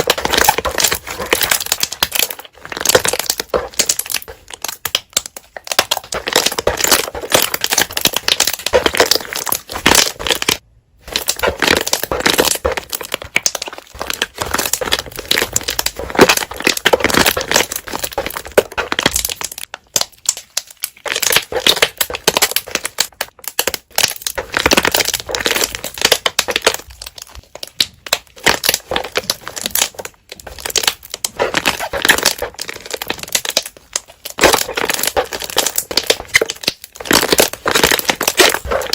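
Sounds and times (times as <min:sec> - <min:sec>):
slime squished with popping bubbles: 0:00.0 - 0:38.9.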